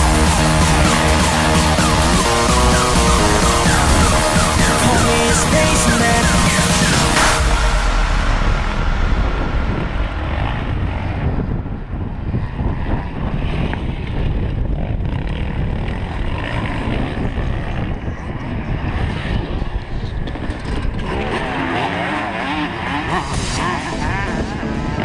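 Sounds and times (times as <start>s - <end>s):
motocross bike engines: 0.0s - 7.6s, 9.7s - 25.0s.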